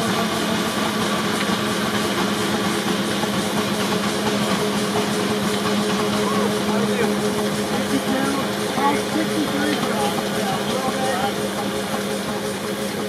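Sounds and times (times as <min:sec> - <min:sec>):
constant hum: 0:00.0 - 0:13.0
steam traction engine running: 0:00.0 - 0:13.0.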